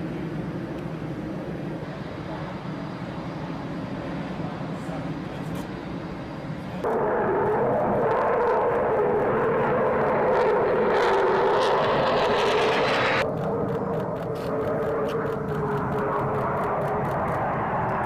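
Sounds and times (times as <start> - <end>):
jet engine rumble and whine: 0.0 - 18.0.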